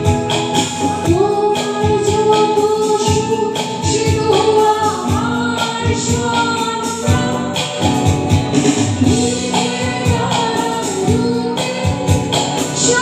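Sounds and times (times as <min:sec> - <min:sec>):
electric and bass guitar: 0:00.0 - 0:13.0
keyboard: 0:00.0 - 0:13.0
woman singing: 0:00.0 - 0:13.0.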